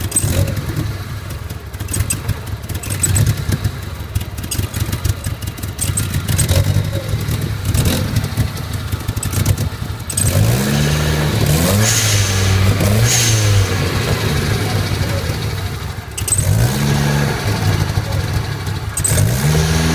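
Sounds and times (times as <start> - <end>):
car engine idling roughly: 0.0 - 19.9
engine revving: 0.0 - 19.9.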